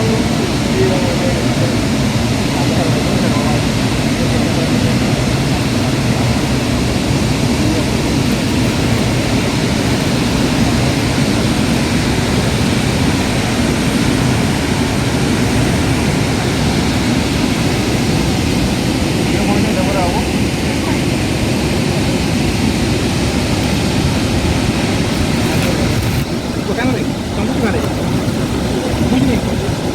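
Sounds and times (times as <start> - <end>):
roar of waterfall: 0.0 - 29.9.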